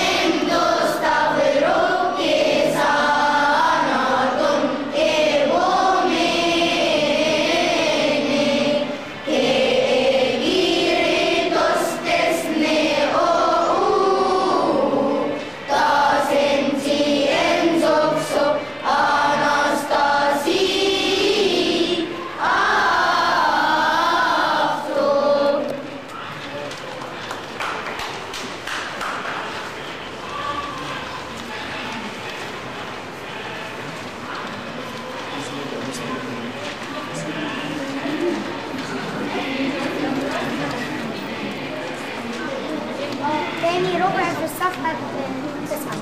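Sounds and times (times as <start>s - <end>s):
children's choir singing: 0.0s - 46.0s.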